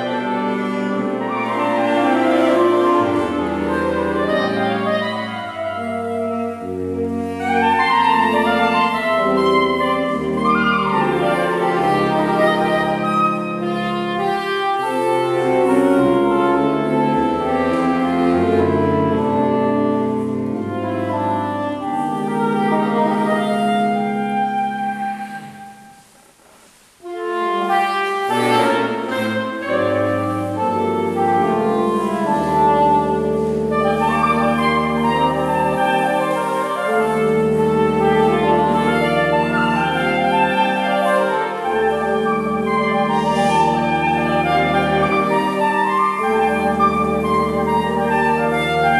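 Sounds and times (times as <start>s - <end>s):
saxophone quartet in harmony: 0.0s - 26.1s, 27.0s - 48.9s.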